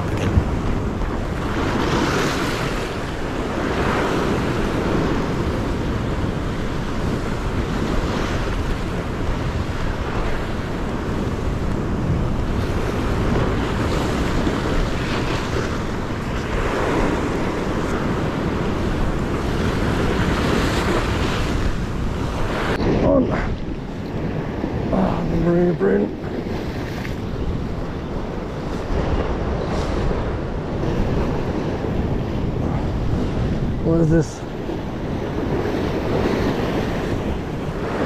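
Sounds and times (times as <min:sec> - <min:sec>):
ocean surf breaking on rocks: 0:00.0 - 0:38.0
wind buffeting microphone: 0:00.0 - 0:38.0.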